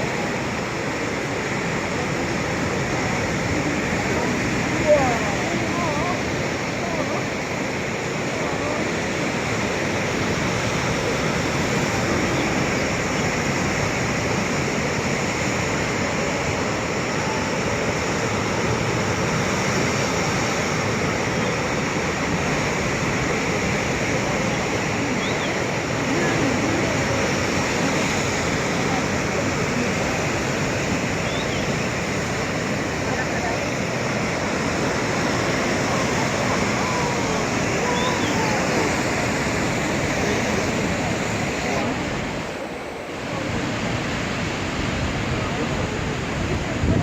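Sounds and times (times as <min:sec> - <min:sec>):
surf rushing: 0:00.0 - 0:47.0.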